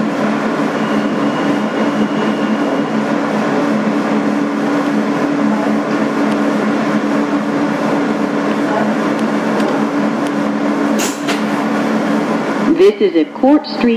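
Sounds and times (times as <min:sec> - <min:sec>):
low two-tone equipment hum: 0:00.0 - 0:13.9
subway car rumble: 0:00.0 - 0:13.9.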